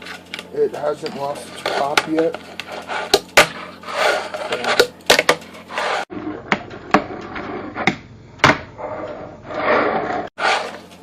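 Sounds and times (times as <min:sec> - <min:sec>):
fingerboard wheels rolling: 0:00.0 - 0:11.0.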